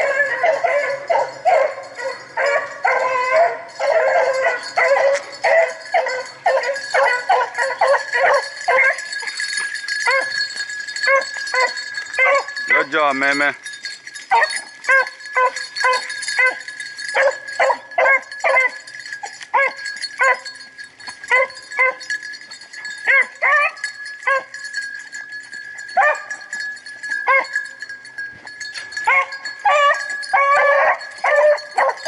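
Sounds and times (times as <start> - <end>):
hounds barking and baying: 0.0 - 13.2, 13.8 - 32.0.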